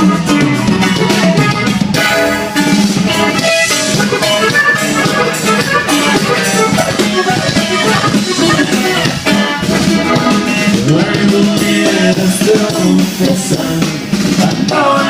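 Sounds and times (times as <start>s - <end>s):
accordion: 0.0s - 15.0s
guitar: 0.0s - 15.0s.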